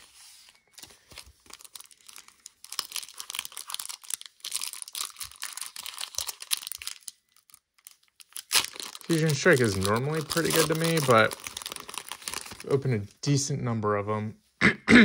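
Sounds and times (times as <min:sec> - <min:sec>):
foil wrapper crinkling and tearing: 0:00.6 - 0:13.0.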